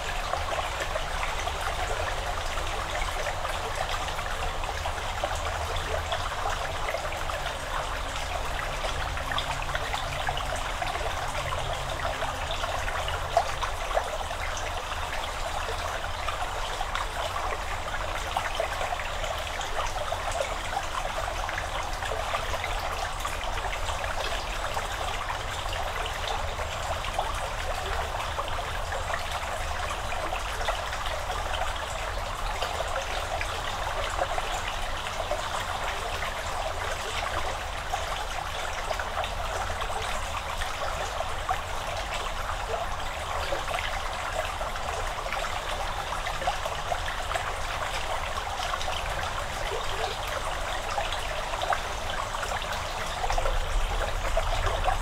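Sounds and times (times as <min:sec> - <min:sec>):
stream trickling and babbling: 0:00.0 - 0:55.0.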